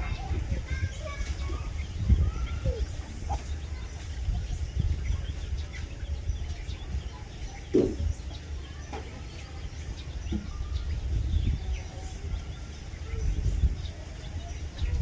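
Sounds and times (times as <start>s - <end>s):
hen clucking: 0.0s - 13.0s
chicks peeping: 0.0s - 15.0s.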